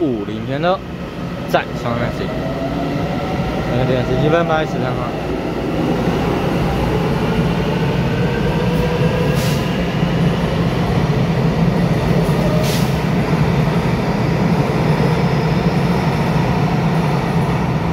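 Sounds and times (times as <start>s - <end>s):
train wheels rumbling on rail: 0.0s - 17.9s.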